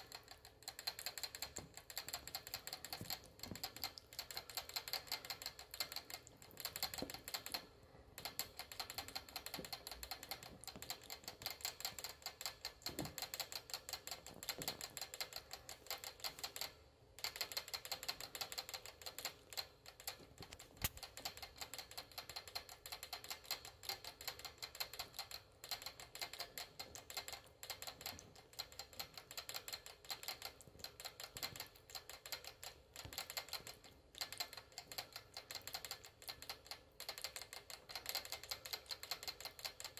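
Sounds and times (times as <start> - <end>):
rat licking metal bottle tube: 0.0 - 39.9.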